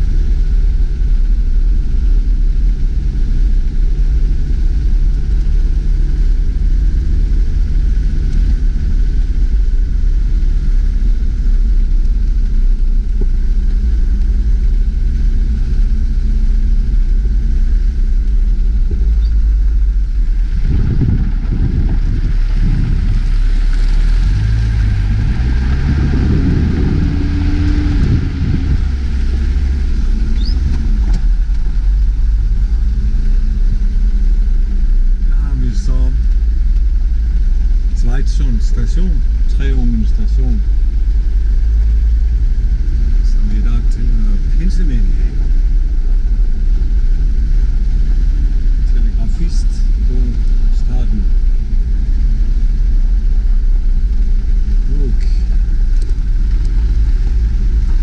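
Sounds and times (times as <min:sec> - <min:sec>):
vehicle engine driving on gravel: 0:00.0 - 0:58.0.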